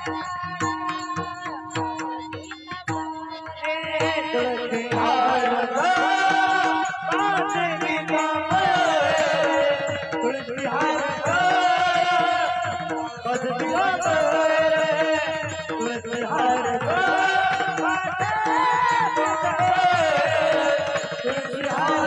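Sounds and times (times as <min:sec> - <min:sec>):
tabla drum strokes: 0:00.0 - 0:22.0
woman singing: 0:00.0 - 0:22.0.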